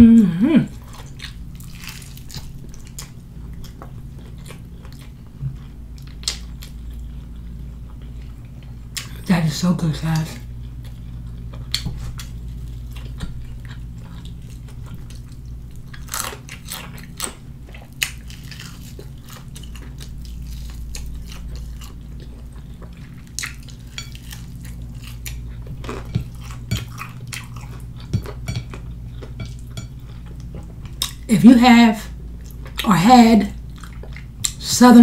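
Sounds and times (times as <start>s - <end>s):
steady low hum: 0.0s - 35.0s
chewing crispy fried chicken: 0.7s - 9.3s, 10.1s - 31.3s, 32.1s - 34.7s.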